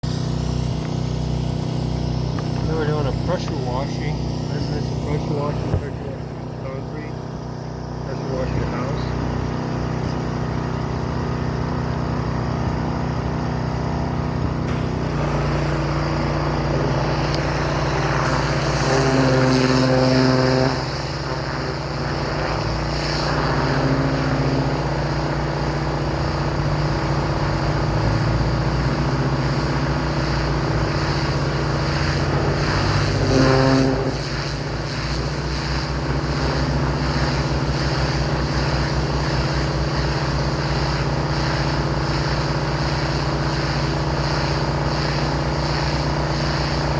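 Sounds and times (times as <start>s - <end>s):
pressure washer engine running: 0.0s - 46.9s
spray hissing: 0.7s - 6.3s, 14.5s - 46.9s.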